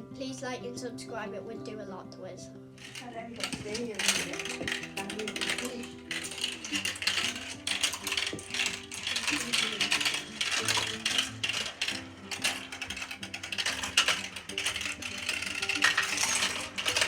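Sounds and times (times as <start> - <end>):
marbles rolling and clattering: 2.8 - 17.0.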